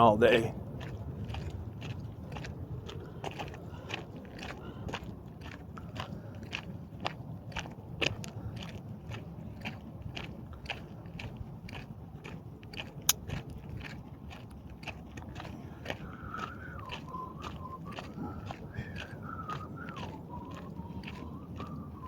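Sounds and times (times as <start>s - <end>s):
crunching footsteps: 0.3s - 21.9s.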